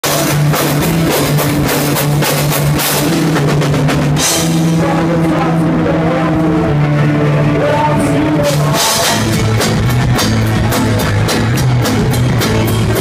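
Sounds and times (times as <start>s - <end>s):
bass drum: 0.0s - 13.0s
drum kit: 0.0s - 13.0s
electric guitars: 0.0s - 13.0s.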